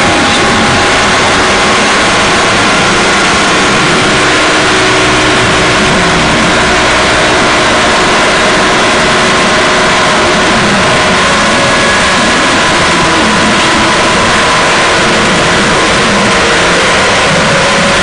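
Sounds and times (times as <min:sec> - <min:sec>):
faint held drone tones: 0:00.0 - 0:18.0
harsh distorted noise music: 0:00.0 - 0:18.0.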